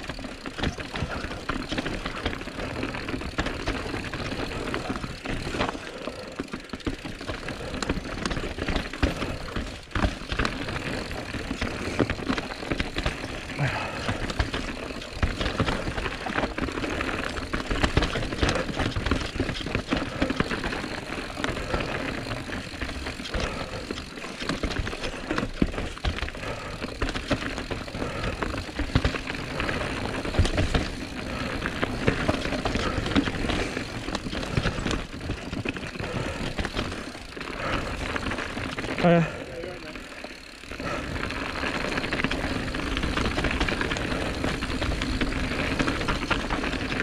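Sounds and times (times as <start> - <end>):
bike knocking and rattling: 0.0 - 47.0
bike tyres on dirt trail: 0.0 - 47.0.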